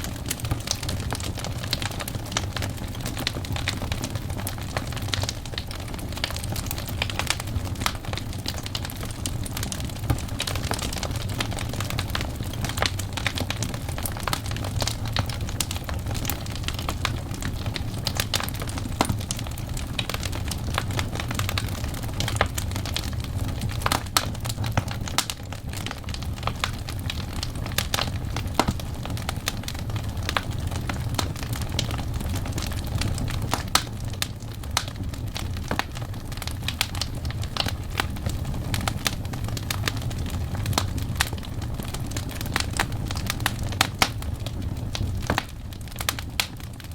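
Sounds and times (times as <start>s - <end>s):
low rumble of flames: 0.0s - 46.9s
wood fire crackling and popping: 0.0s - 46.9s.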